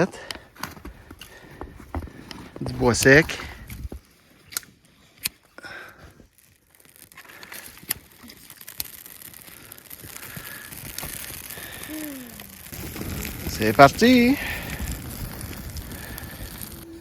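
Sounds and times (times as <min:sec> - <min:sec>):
dry wood snapping: 0:00.2 - 0:17.0
soft rustling hiss: 0:02.2 - 0:17.0.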